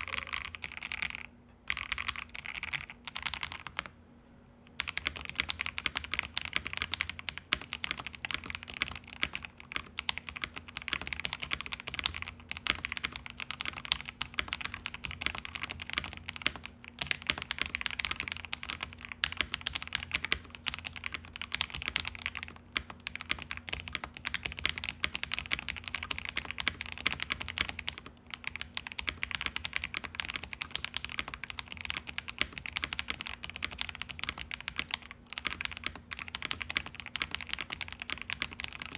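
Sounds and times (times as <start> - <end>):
mechanical keyboard typing: 0.0 - 3.9, 4.8 - 38.9.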